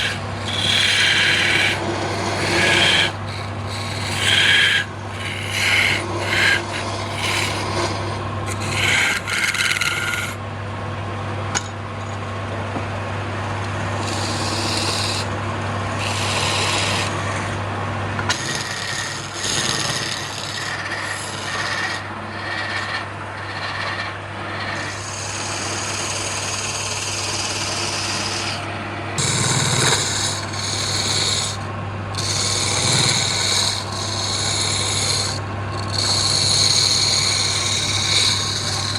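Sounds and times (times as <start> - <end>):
tool scraping spinning wood: 0.0 - 10.4, 13.6 - 38.9
lathe motor hum: 0.0 - 38.9.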